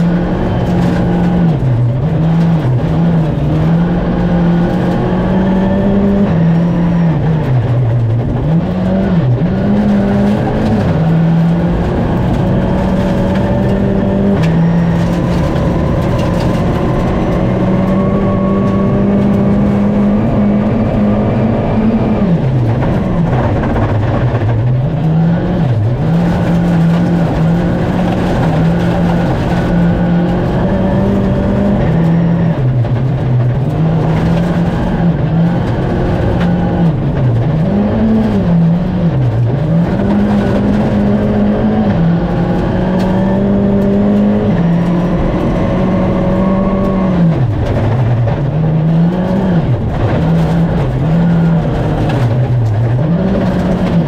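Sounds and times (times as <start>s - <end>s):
rally car engine revving: 0.0s - 54.0s
road noise from gravel: 0.0s - 54.0s.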